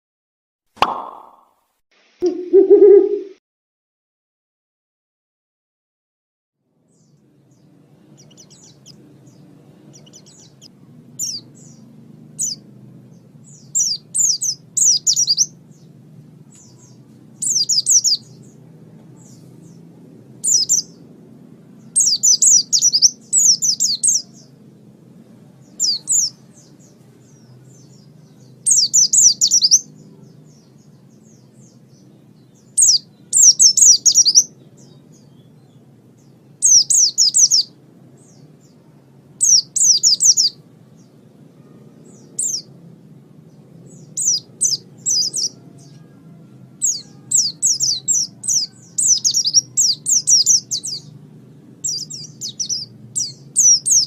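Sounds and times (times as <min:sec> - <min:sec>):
songbird chirping: 0:00.8 - 0:01.6, 0:02.2 - 0:03.4, 0:06.8 - 0:54.0
faint low hum: 0:02.2 - 0:03.4, 0:06.7 - 0:54.0.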